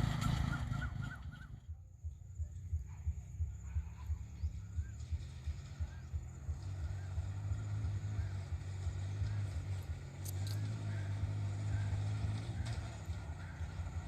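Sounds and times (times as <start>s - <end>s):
small motorcycle engine droning: 0.0s - 14.0s.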